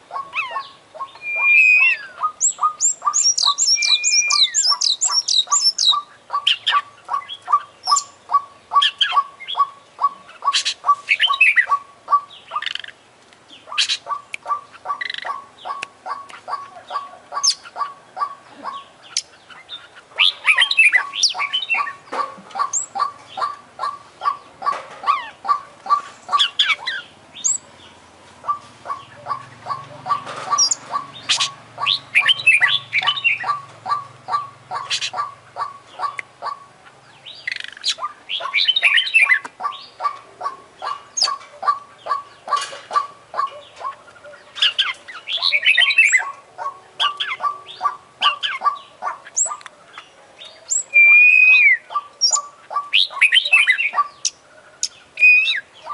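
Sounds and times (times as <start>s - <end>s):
bird singing: 0.0s - 55.9s.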